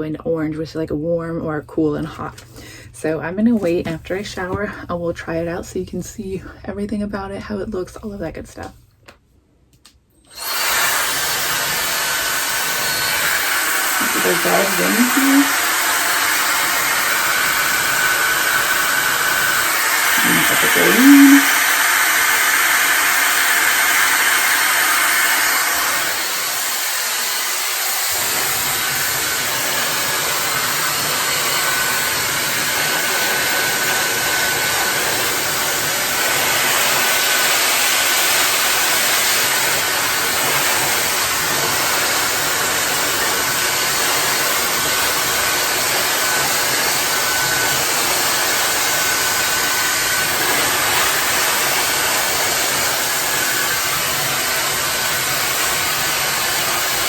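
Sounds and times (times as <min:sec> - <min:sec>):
hair dryer blowing air: 0:10.2 - 0:57.0.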